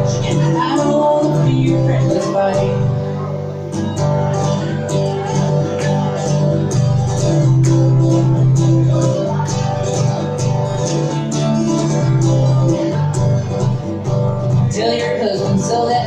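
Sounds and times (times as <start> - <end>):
held bass notes: 0.0 - 16.0
strummed guitar: 0.0 - 16.0.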